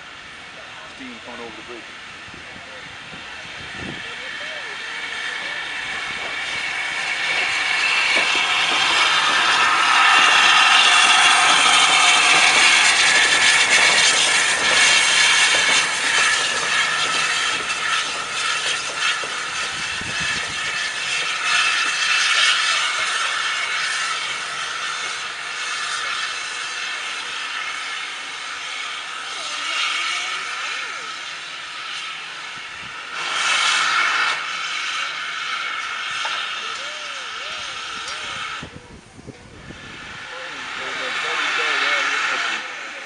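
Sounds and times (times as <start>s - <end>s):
steam locomotive hissing: 0.0s - 43.0s.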